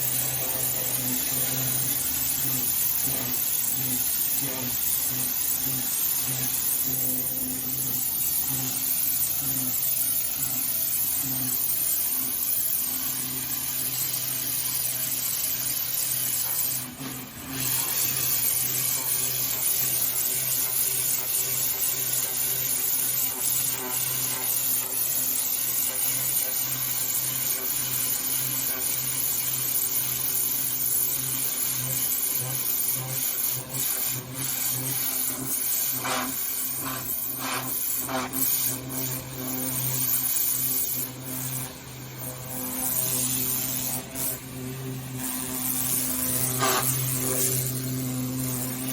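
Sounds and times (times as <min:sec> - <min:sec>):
pressure washer spray hiss: 0:00.0 - 0:48.9.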